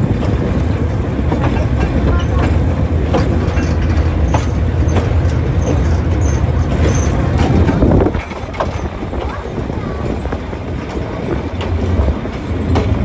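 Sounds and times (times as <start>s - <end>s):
locomotive engine rumbling: 0.0s - 13.0s
wheels clicking on track: 0.0s - 13.0s.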